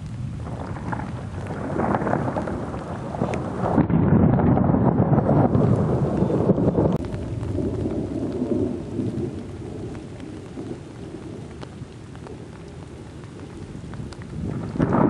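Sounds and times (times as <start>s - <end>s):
steady rain falling: 0.0s - 15.0s
thunder rumbling: 0.0s - 15.0s.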